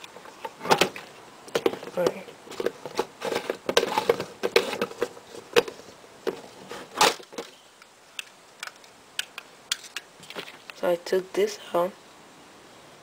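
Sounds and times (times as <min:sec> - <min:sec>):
plastic parts clicking and knocking: 0:00.0 - 0:10.7.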